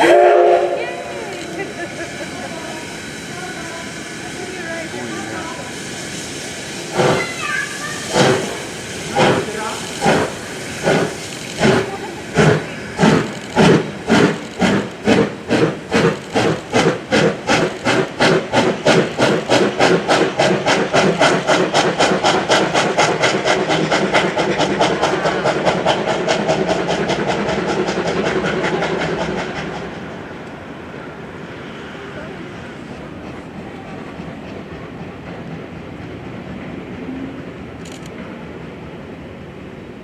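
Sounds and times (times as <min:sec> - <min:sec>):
steam locomotive chuffing: 0:00.0 - 0:40.0.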